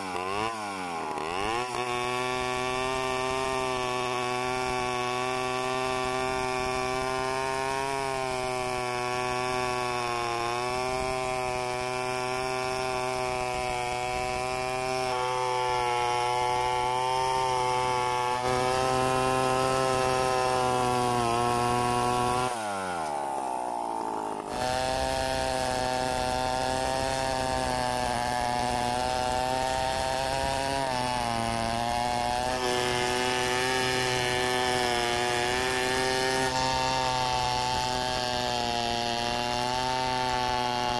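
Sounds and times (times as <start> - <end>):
chainsaw cutting through log: 0.0 - 40.9.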